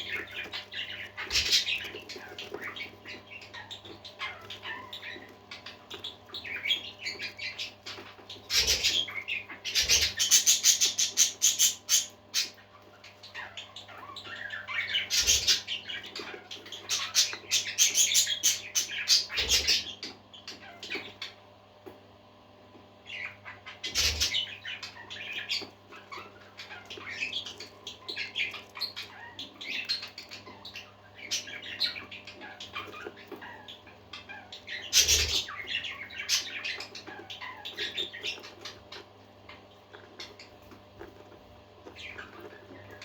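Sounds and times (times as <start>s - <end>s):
parakeets chattering and chirping: 0.0s - 43.0s.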